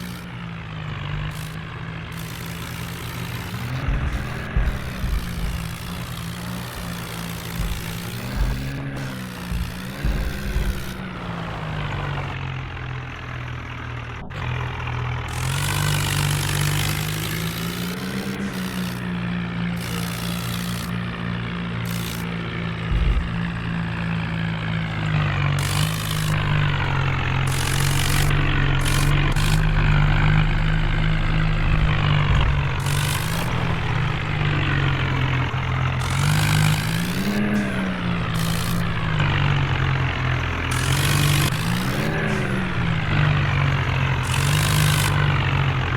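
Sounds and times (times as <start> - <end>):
tractor diesel engine straining: 0.0 - 45.9.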